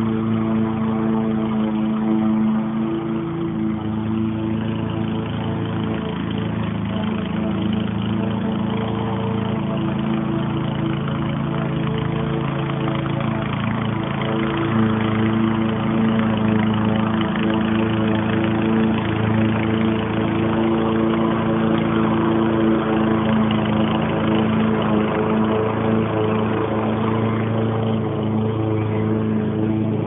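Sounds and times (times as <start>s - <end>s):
small motor humming: 0.0s - 30.0s.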